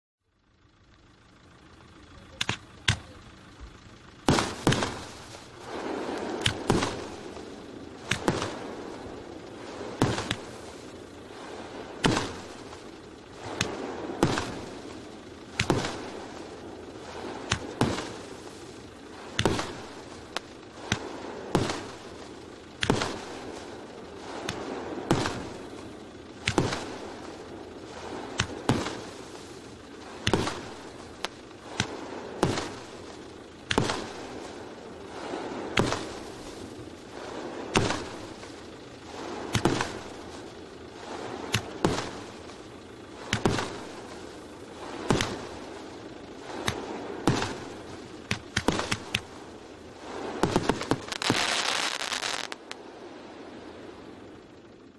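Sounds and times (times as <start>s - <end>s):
firework hissing: 0.4s - 54.9s
firework bangs: 0.7s - 52.9s.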